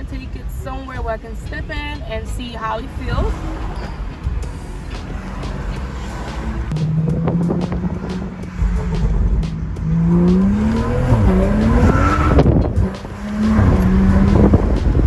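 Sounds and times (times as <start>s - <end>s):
car engine accelerating hard: 0.0s - 15.0s
tyres squealing: 0.0s - 15.0s.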